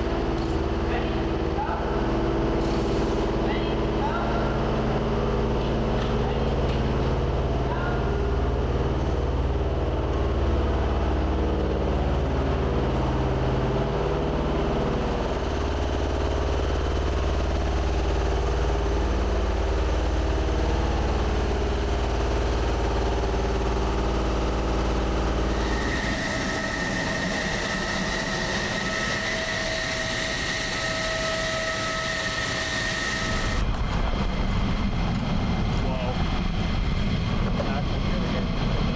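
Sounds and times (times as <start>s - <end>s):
low mechanical engine hum: 0.0s - 38.9s
high-pitched whine: 7.3s - 38.9s.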